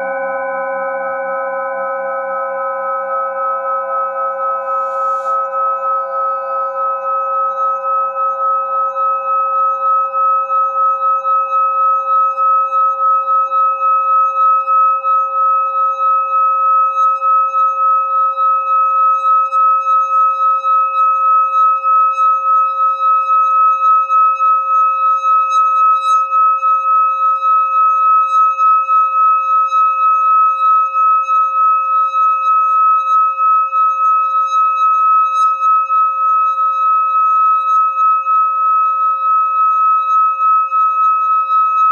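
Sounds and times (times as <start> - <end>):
singing bowl ringing tone: 0.0 - 41.9.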